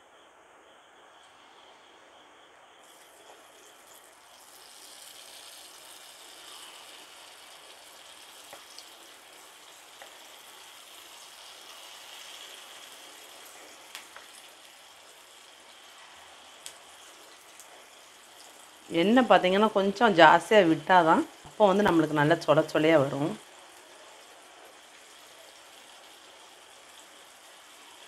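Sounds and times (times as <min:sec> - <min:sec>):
batter sizzling in hot oil: 0:02.7 - 0:28.0.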